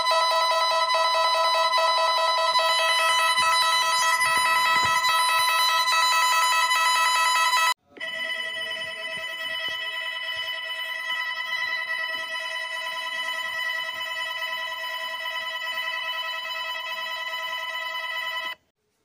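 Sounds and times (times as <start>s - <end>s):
electronic multi-tone alarm trill: 0.0s - 18.6s
quieter multi-tone alert: 0.0s - 18.6s.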